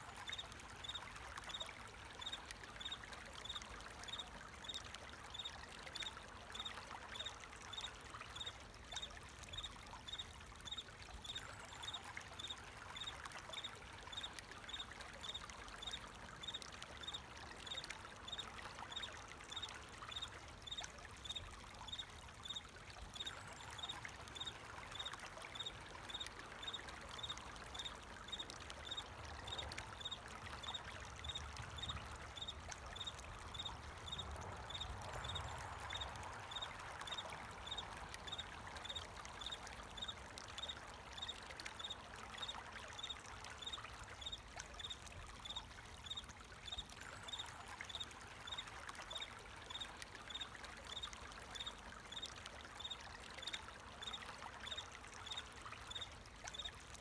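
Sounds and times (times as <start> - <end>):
water trickling and pouring: 0.0 - 57.0.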